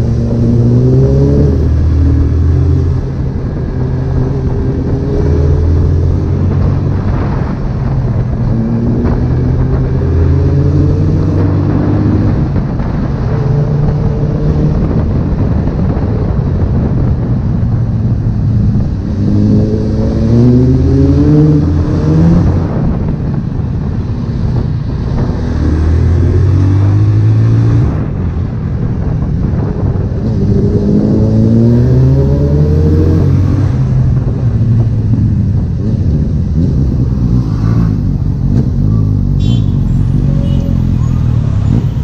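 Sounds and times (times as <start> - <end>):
motorcycle engine accelerating: 0.0 - 42.0
wind and road noise: 0.0 - 42.0.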